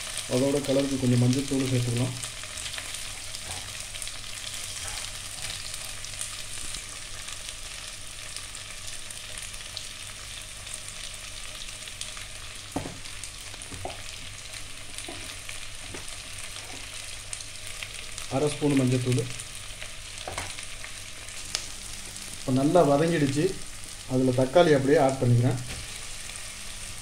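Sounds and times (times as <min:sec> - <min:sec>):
onions sizzling in hot oil: 0:00.0 - 0:27.0.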